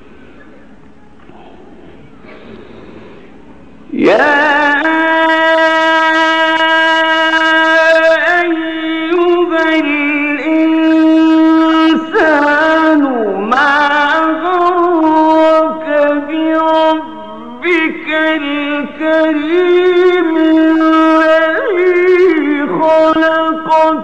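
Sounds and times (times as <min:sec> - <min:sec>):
man reciting melodically: 0:03.8 - 0:24.0.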